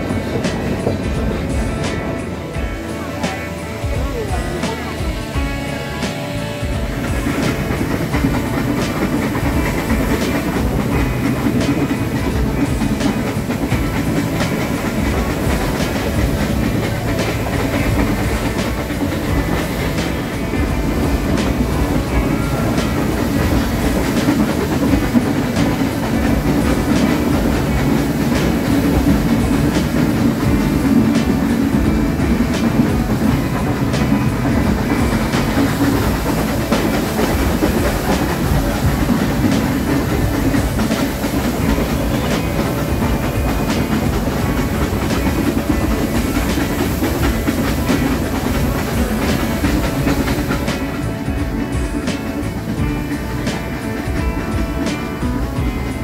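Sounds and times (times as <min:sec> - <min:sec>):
train rumbling on track: 0:00.0 - 0:56.0
wheels clattering over rail joints: 0:00.0 - 0:56.0.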